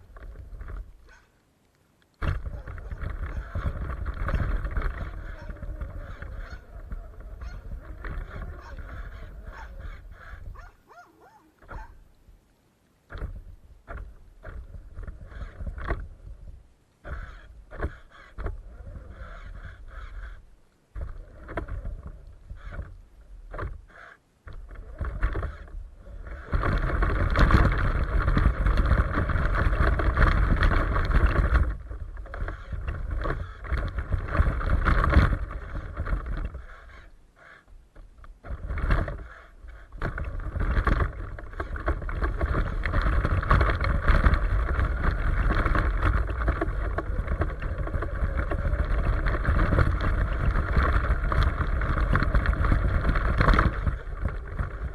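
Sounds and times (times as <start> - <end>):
toy truck motor and tyres: 2.3 - 10.7, 13.9 - 37.8, 38.4 - 54.9.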